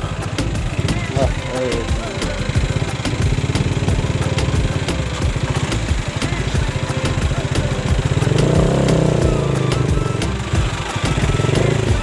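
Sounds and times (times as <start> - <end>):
scooter engine idling and revving: 0.0 - 12.0.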